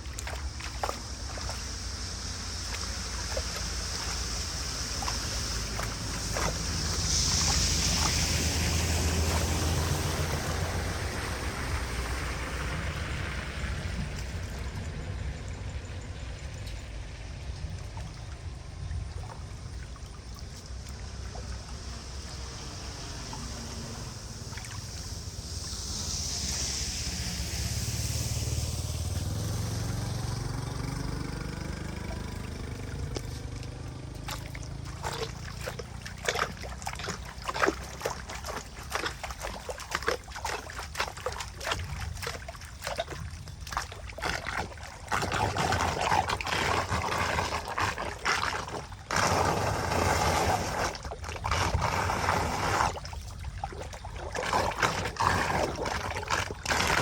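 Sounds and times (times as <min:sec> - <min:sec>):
low engine hum: 0:00.0 - 0:57.0
water splashing and trickling: 0:00.0 - 0:57.0.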